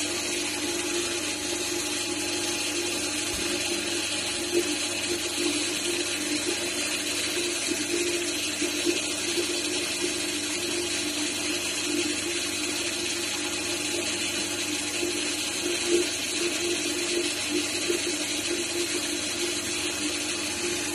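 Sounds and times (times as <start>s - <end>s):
milling machine whine and hiss: 0.0s - 20.9s.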